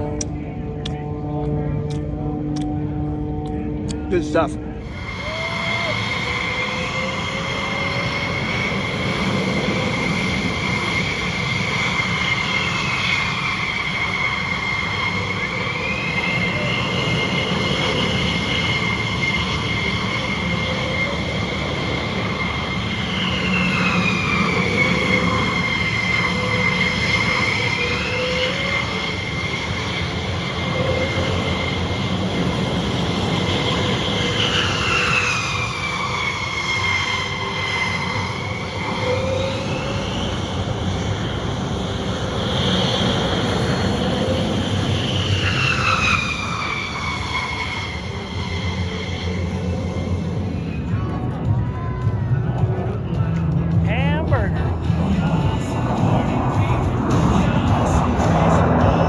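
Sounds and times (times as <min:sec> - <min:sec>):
jet engines whining: 0:00.0 - 0:59.0
steady engine rumble: 0:00.0 - 0:59.0.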